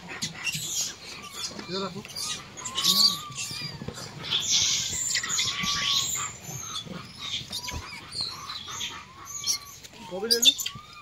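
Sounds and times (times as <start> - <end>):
harsh monkey calls: 0.0 - 11.0
thin arching monkey calls: 0.0 - 11.0.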